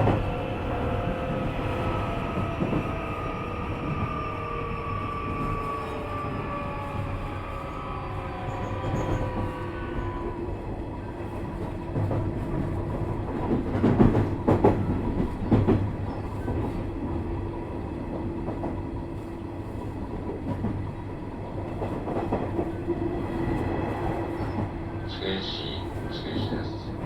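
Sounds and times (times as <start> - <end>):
train wheels and traction hum: 0.0 - 27.0.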